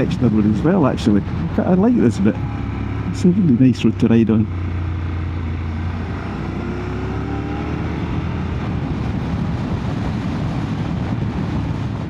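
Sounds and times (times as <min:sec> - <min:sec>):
wind and road noise: 0:00.0 - 0:12.0
motorcycle engine running: 0:01.2 - 0:12.0.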